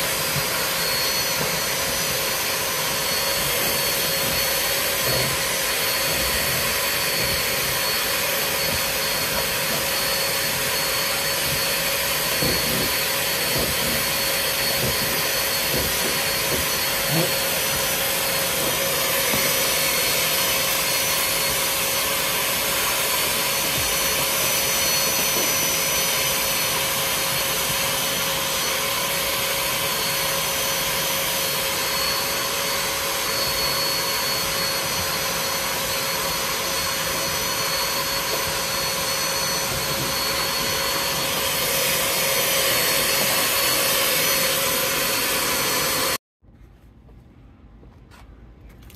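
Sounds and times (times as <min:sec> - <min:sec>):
hose nozzle on carpet: 0:00.0 - 0:46.2
vacuum motor whining: 0:00.0 - 0:46.2.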